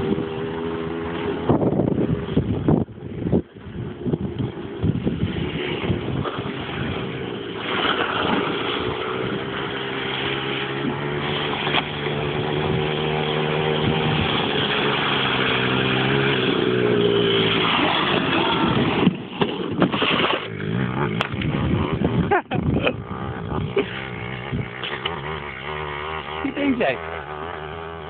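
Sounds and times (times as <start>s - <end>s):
atv engine running under load: 0.0s - 28.0s.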